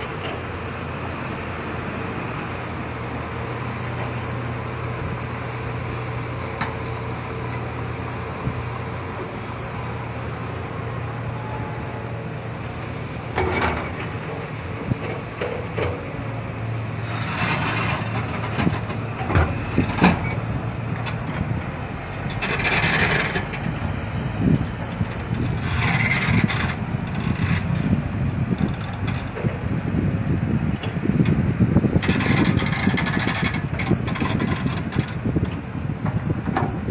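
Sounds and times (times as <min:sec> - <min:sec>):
scraping and grinding of soil: 0:00.0 - 0:12.1, 0:13.3 - 0:29.8, 0:31.9 - 0:35.7
diesel machinery running: 0:00.0 - 0:36.9.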